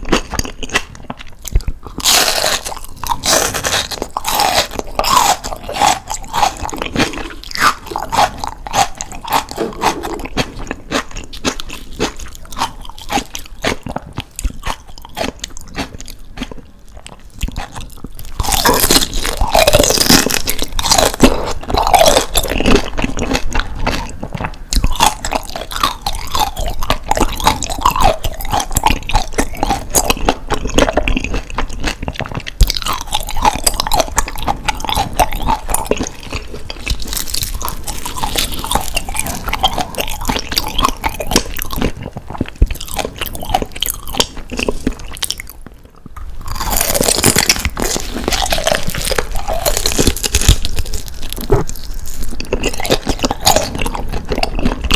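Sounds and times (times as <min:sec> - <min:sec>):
crunchy wet chewing: 0:00.0 - 0:54.9.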